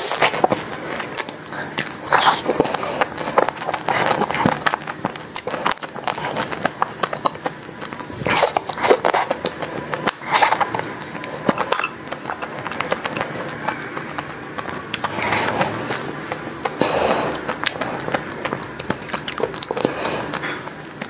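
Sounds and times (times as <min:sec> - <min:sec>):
chewing and crunching ice cream bar: 0:00.0 - 0:21.0
teeth scraping wooden stick: 0:00.0 - 0:21.0.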